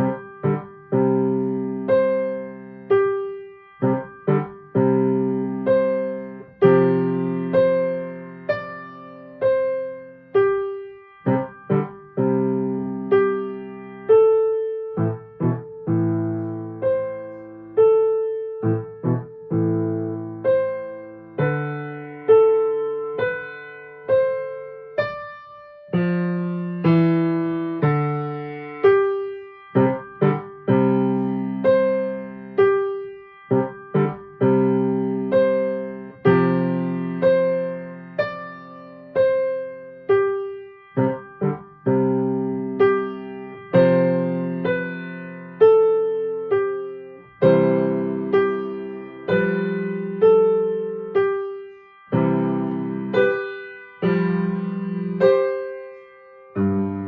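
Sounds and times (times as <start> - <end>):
solo piano: 0.0 - 57.0.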